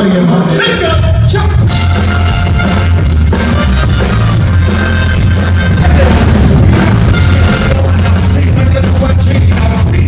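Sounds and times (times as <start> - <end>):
loud live band music: 0.0 - 10.0.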